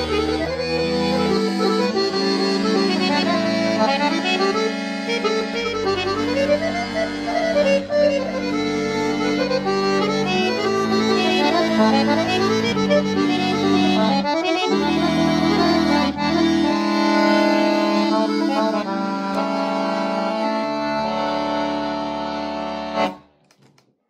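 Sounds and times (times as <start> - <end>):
accordion melody with chords: 0.0 - 23.4.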